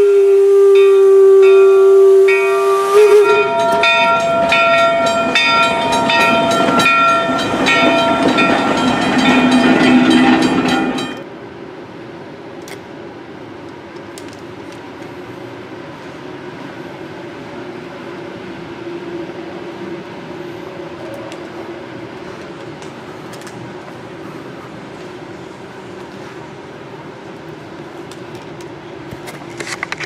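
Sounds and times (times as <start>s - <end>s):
train rumble and hiss: 0.0s - 30.0s.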